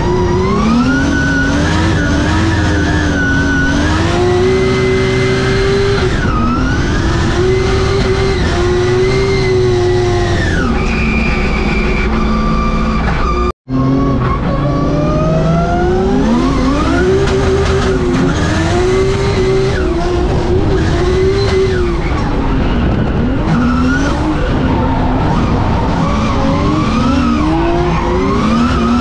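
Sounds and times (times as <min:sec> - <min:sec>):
car engine revving hard: 0:00.0 - 0:11.6, 0:13.4 - 0:29.0.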